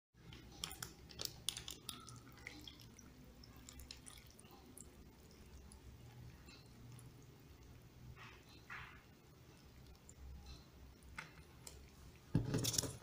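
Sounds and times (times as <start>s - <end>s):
broth pouring and dripping: 0.2s - 12.3s.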